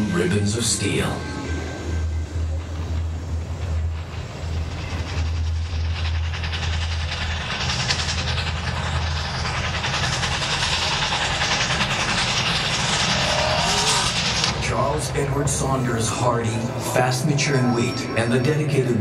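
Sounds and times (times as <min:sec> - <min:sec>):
rushing clattering noise: 0:00.0 - 0:19.0
train rumbling on rails: 0:00.0 - 0:19.0.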